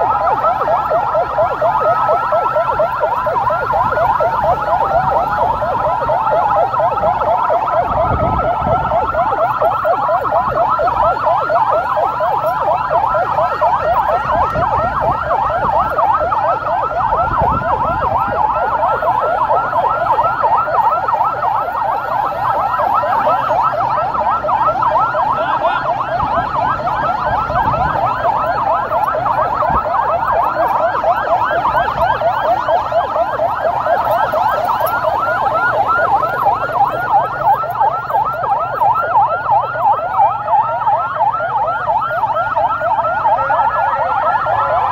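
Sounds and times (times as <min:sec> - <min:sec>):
vehicle engines and road noise: 0:00.0 - 0:44.9
vehicle sirens yelping: 0:00.0 - 0:44.9.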